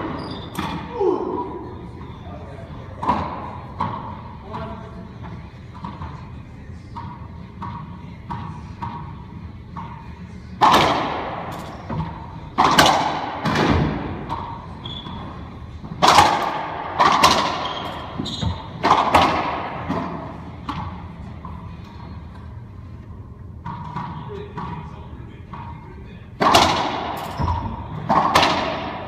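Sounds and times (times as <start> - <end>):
racquet strikes and ball hitting walls: 0.0 - 1.1, 2.9 - 4.3, 5.2 - 21.7, 23.6 - 25.8, 26.4 - 29.0.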